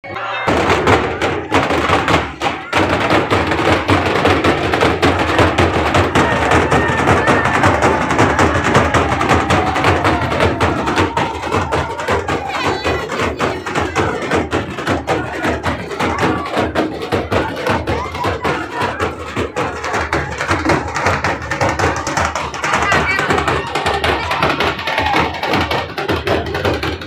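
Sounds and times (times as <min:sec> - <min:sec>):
large drums beaten hard: 0:00.3 - 0:27.0.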